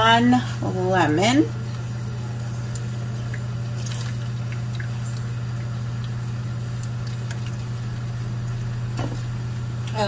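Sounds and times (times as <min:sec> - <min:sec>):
steady low hum: 0:00.0 - 0:10.0
juice trickling into a pot: 0:01.0 - 0:10.0.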